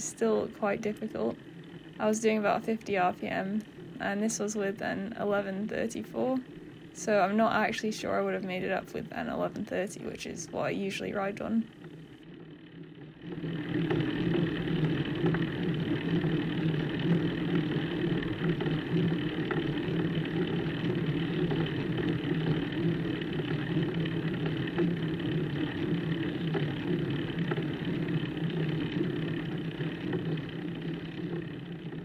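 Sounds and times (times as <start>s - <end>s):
bicycle road rumble on microphone: 0.0s - 32.0s.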